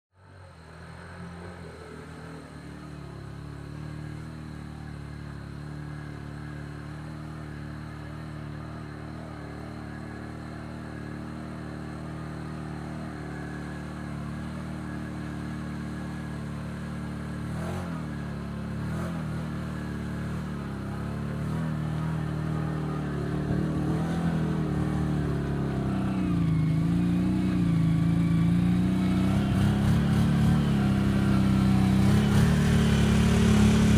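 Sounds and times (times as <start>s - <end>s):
atv engine running under load: 0.2s - 33.9s.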